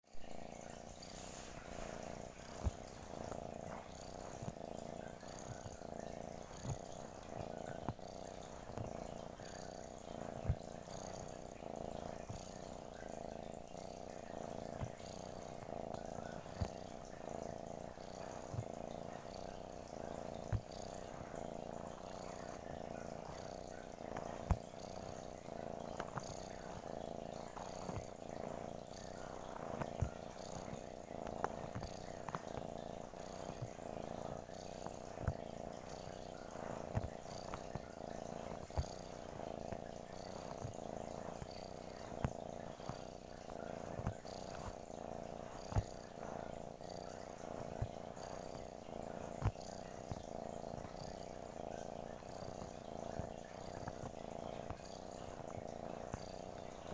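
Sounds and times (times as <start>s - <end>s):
cat purring: 0.0s - 56.9s.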